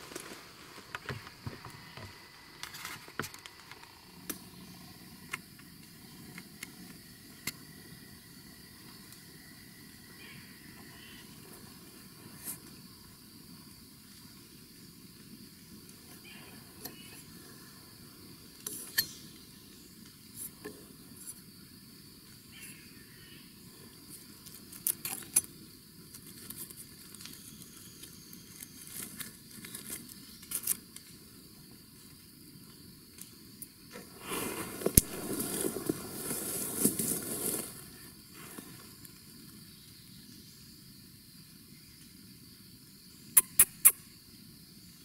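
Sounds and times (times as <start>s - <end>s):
high insect drone: 0.0s - 45.0s.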